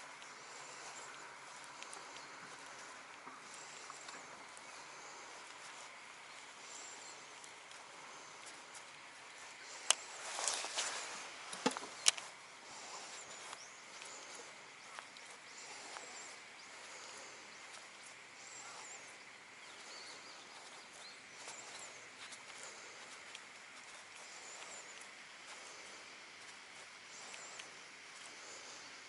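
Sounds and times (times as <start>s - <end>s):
faint distant bird chirps: 0.0s - 29.0s.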